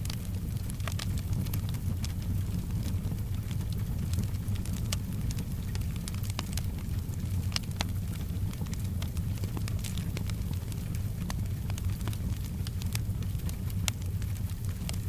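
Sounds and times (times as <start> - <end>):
fireplace fire crackling: 0.0 - 15.0
soft rain: 0.0 - 15.0.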